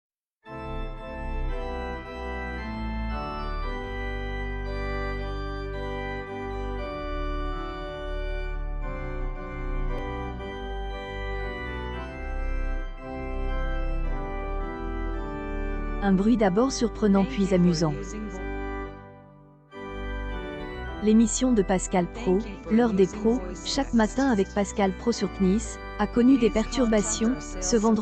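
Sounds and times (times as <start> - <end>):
organ-like keyboard chords: 0.5 - 28.0.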